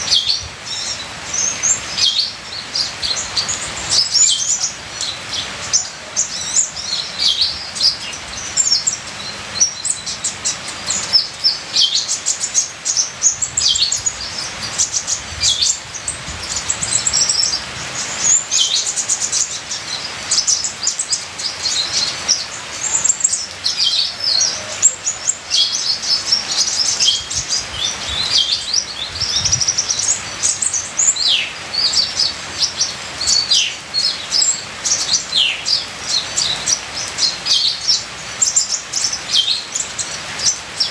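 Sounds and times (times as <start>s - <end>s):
bird singing: 0.0s - 40.9s
trickling water hiss: 0.0s - 40.9s.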